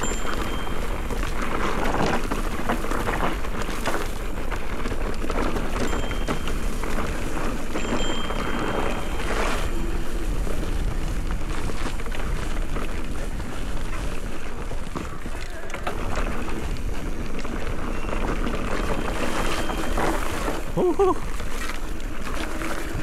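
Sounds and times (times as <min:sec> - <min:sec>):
bike rattling and clicking: 0:00.0 - 0:23.0
bike tyres on loose dirt: 0:00.0 - 0:23.0
wind buffeting microphone: 0:00.0 - 0:23.0.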